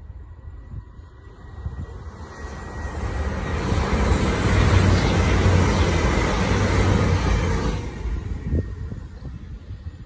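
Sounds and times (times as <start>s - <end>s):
train passing at speed: 0.0s - 10.0s.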